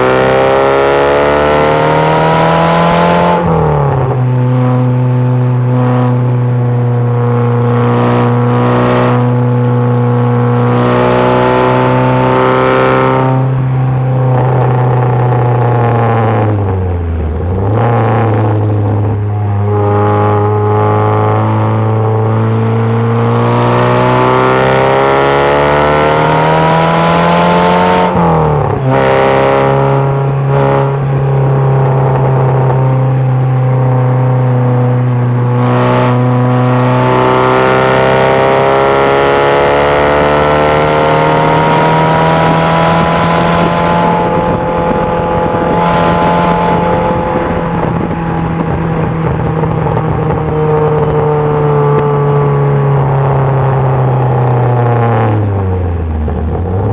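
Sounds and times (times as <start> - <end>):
car engine revving: 0.0 - 56.9
wind and road noise: 0.0 - 56.9.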